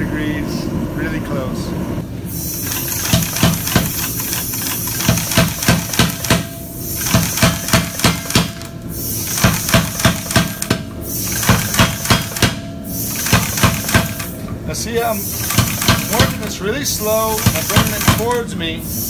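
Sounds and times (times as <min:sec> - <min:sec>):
air hiss: 0:02.2 - 0:19.0
power hammer striking hot steel: 0:02.6 - 0:18.5.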